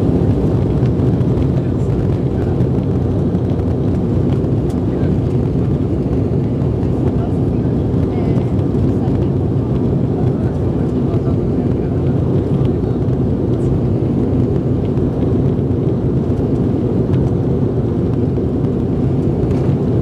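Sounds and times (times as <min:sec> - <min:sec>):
jet engines and rushing air: 0:00.0 - 0:20.0.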